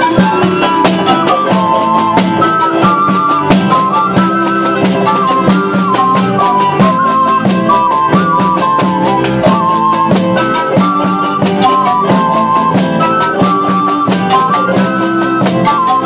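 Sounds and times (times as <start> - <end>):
acoustic folk ensemble playing: 0.0 - 16.0
guitars strumming: 0.0 - 16.0
light hand percussion: 0.0 - 16.0.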